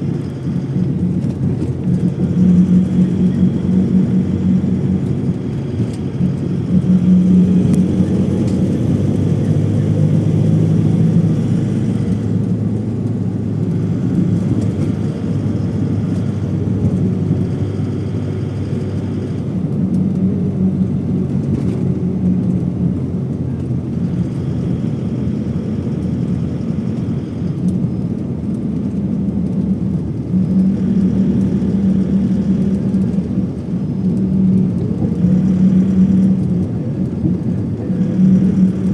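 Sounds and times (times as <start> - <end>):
vehicle drone: 0.0 - 38.9.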